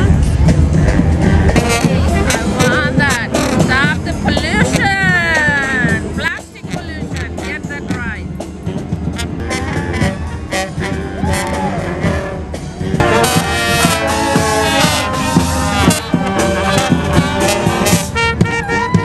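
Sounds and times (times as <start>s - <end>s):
driving drums: 0.0s - 19.0s
marching brass band: 0.0s - 19.0s.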